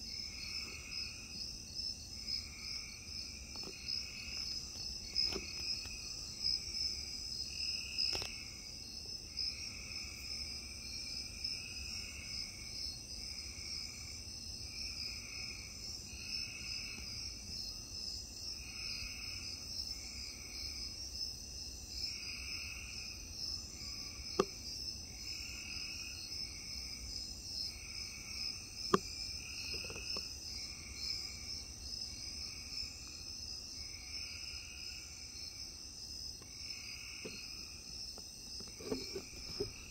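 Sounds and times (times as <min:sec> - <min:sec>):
crickets trilling: 0:00.0 - 0:39.9
low pulsing insect call: 0:00.0 - 0:39.9.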